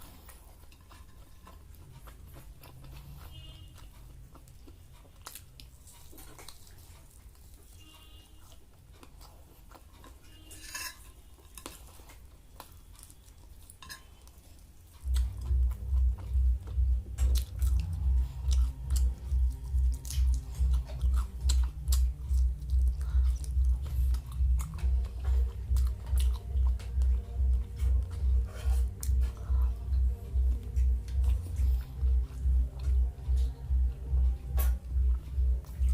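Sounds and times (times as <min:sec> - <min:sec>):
chewing and crunching: 0:00.0 - 0:35.9.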